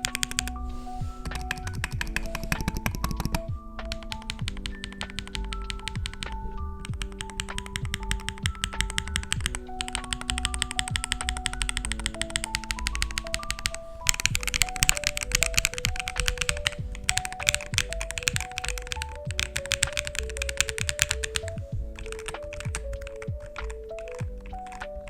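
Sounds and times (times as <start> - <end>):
mechanical keyboard typing: 0.0 - 25.0
simple stepped melody: 0.0 - 25.0.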